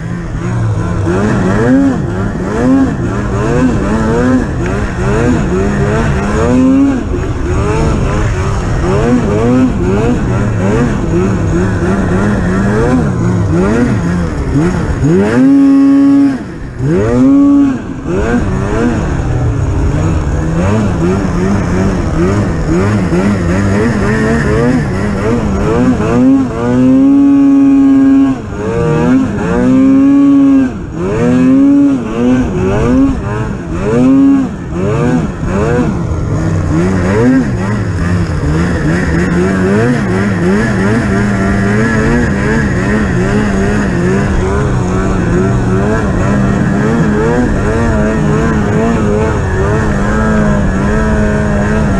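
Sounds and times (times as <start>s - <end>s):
snowmobile engine revving: 0.0s - 51.9s.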